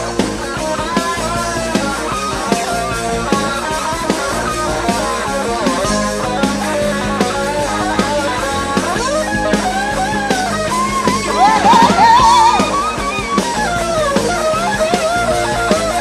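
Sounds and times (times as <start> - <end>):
bass and drums: 0.0 - 16.0
electric guitar lead with bent notes: 0.0 - 16.0.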